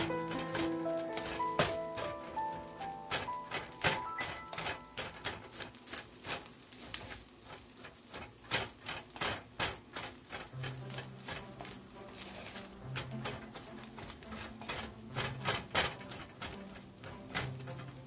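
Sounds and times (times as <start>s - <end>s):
spatula scraping and knocking pan: 0.0s - 18.0s.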